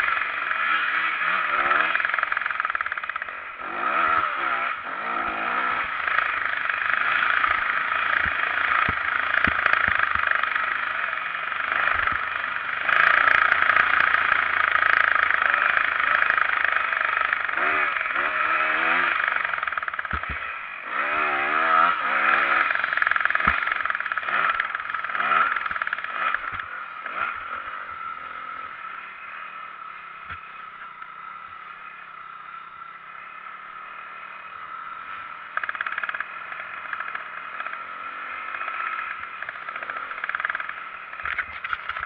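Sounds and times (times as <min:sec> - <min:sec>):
motorbike engine revving: 0:00.0 - 0:42.0.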